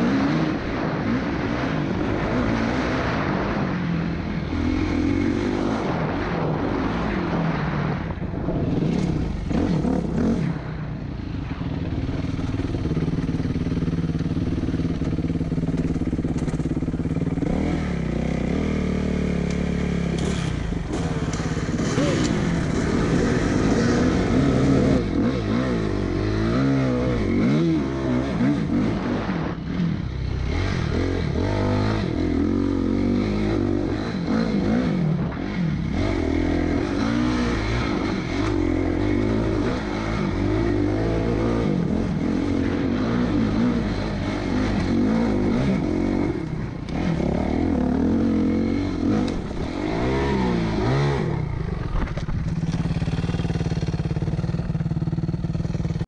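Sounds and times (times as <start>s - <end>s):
dirt bike engine revving: 0.0s - 10.8s, 11.4s - 56.0s.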